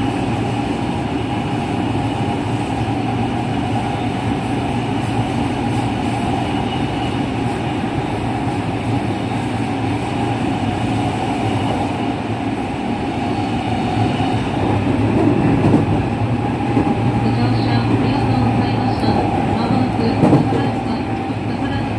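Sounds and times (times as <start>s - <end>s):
train running with motor tone: 0.0s - 21.9s.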